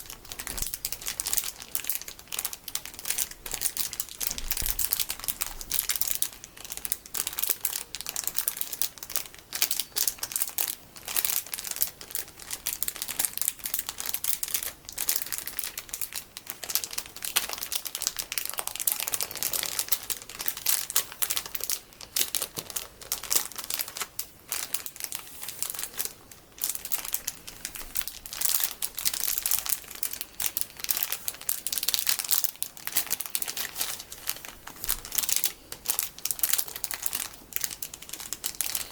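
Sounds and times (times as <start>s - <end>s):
plastic packaging crinkling: 0.0s - 38.9s.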